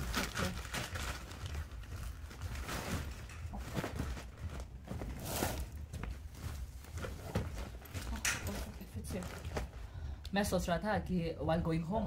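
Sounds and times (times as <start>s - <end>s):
bags rustling: 0.0s - 9.9s
steady low hum: 0.0s - 12.0s.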